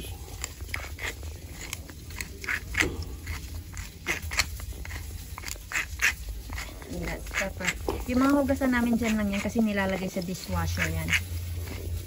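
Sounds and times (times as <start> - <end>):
grinder crunching salt: 0.0 - 12.0.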